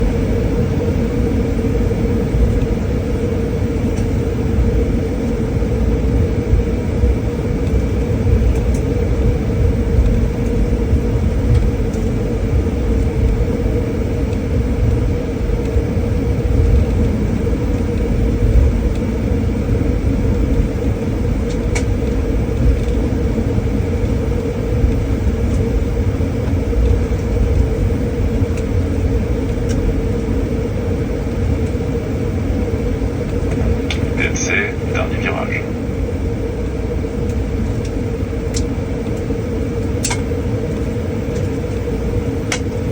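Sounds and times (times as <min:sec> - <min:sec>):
jet cabin engine rumble: 0:00.0 - 0:42.9.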